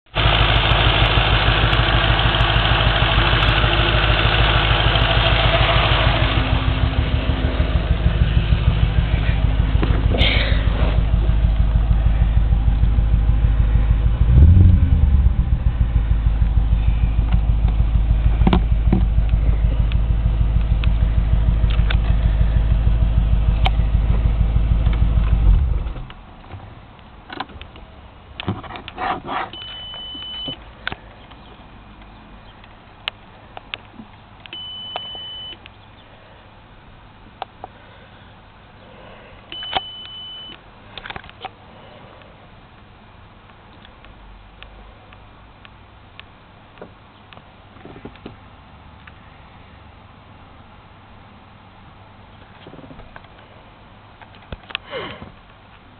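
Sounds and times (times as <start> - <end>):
car engine idling with misfire: 0.1 - 49.8.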